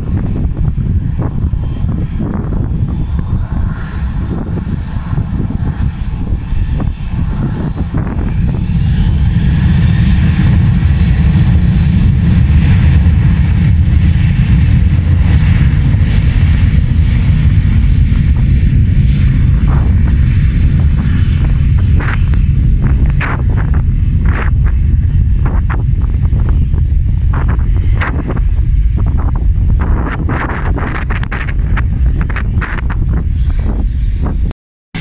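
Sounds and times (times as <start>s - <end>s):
aircraft engines rumbling: 0.0s - 35.0s
faint engine whine: 0.0s - 35.0s.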